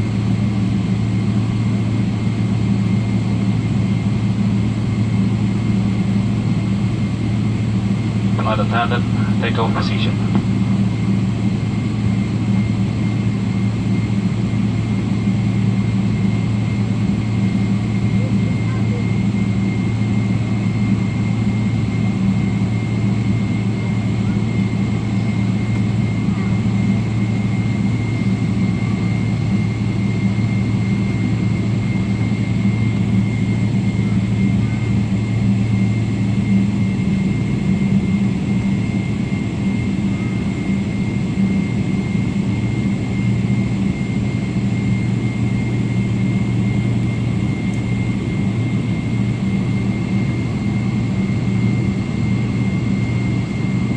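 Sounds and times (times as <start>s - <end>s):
jet engines in airplane cabin: 0.0s - 53.9s.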